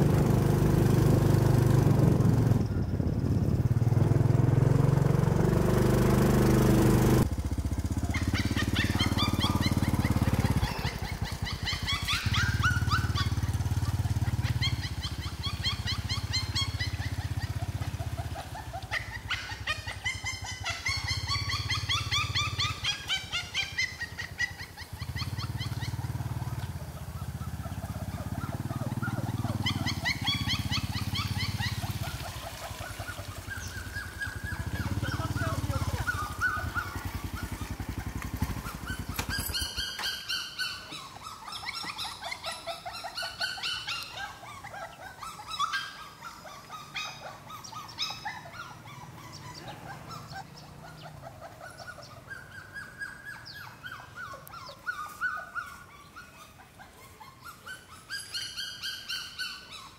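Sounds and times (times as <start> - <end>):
puppies whimpering and whining: 8.0 - 59.9.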